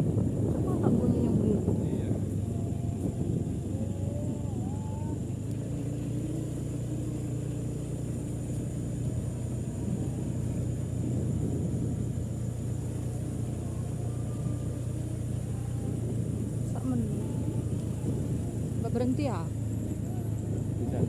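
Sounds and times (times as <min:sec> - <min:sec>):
crickets trilling: 0:00.0 - 0:21.0
low rumble: 0:00.0 - 0:21.0.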